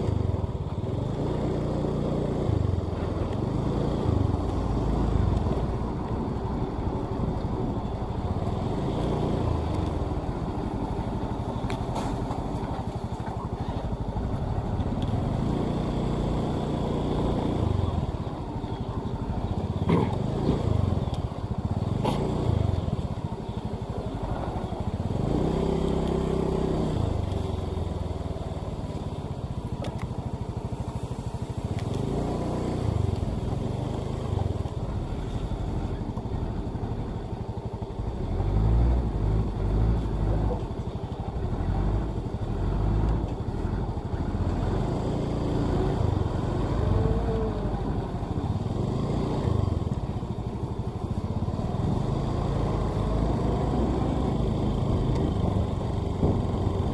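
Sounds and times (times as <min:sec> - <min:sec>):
road noise: 0:00.0 - 0:56.9
vehicle engine accelerating: 0:00.0 - 0:56.9.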